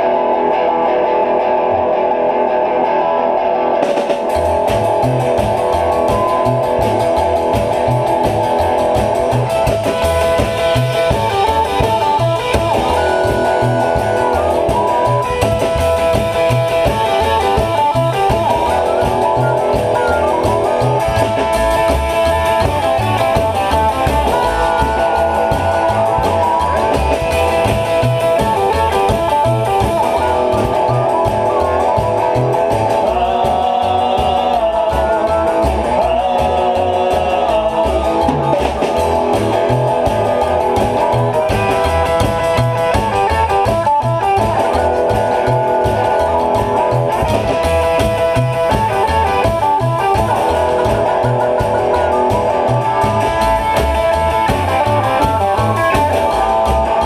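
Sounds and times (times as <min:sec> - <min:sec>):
guitar: 0:00.0 - 0:57.0
drum kit beat: 0:03.8 - 0:57.0
upright double bass: 0:03.8 - 0:57.0
harmonica: 0:03.9 - 0:57.0.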